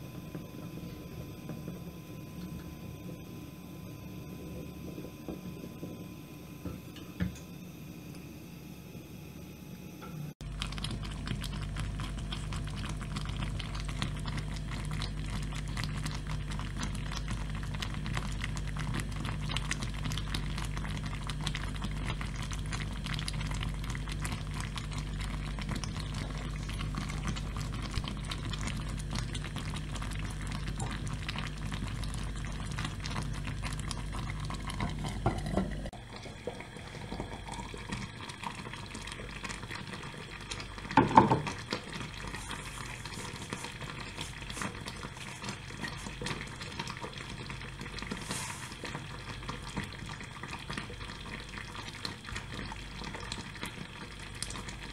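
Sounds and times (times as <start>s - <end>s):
stew bubbling and popping: 0.0s - 8.2s, 10.4s - 54.9s
steady low hum: 0.0s - 54.9s.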